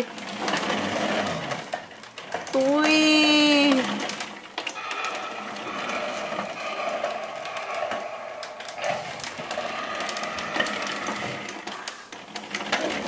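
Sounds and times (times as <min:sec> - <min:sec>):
toy electric motor whirring: 0:00.0 - 0:13.0.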